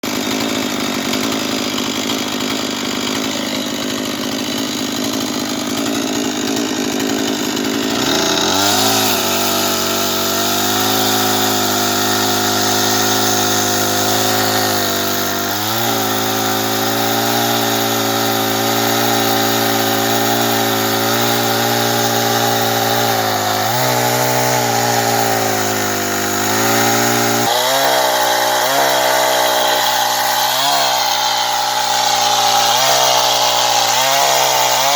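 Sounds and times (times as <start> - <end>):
chainsaw cutting logs: 0.0 - 34.9.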